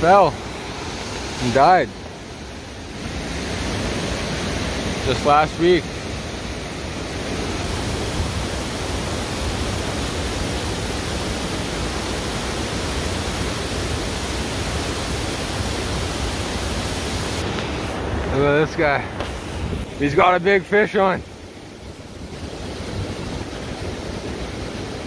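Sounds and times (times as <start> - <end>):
river rapids rushing: 0.0 - 25.0.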